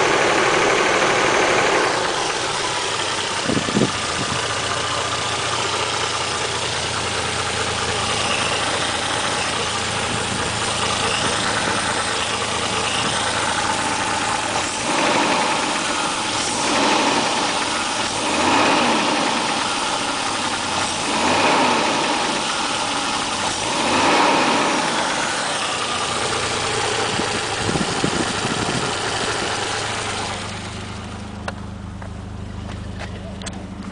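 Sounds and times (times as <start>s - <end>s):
car engine running: 0.0s - 33.9s
engine knocking: 0.0s - 33.9s
engine revving: 0.0s - 33.9s.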